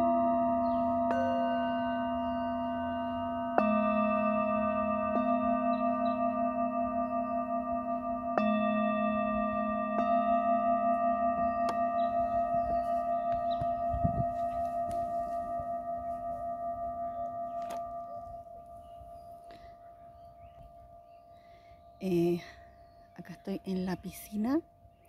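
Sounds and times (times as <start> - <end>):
singing bowls struck with mallet: 0.0 - 24.6.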